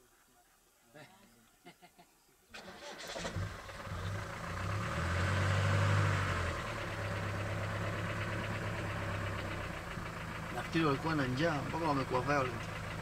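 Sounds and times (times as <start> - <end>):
vehicle engine idling: 2.6 - 13.0.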